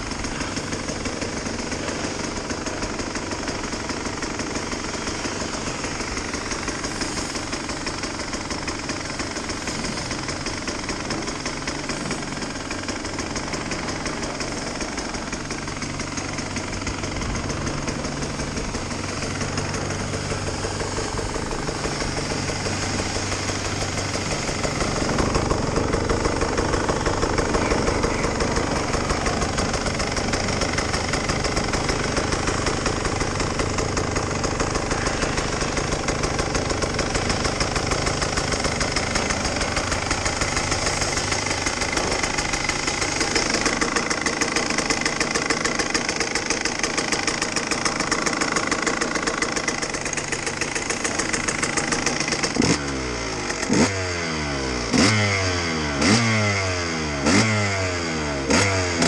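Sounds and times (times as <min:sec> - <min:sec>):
motorcycle engine idling unevenly: 0:00.0 - 0:59.0.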